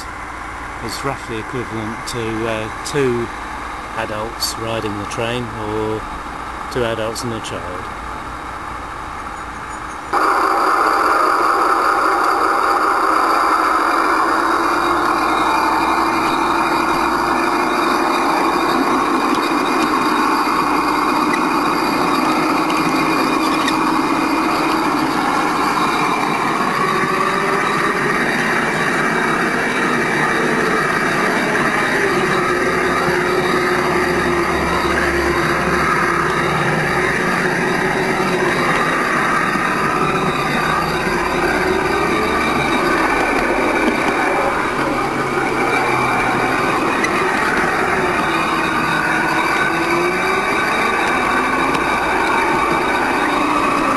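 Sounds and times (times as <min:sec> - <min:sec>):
simulated diesel locomotive engine: 0:00.0 - 0:53.9.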